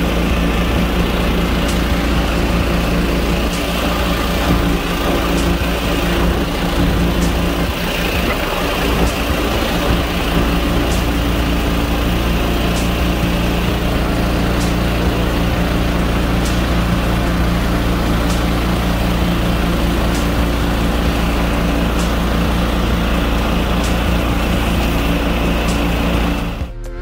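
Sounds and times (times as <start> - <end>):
boat motor running: 0.0 - 26.8.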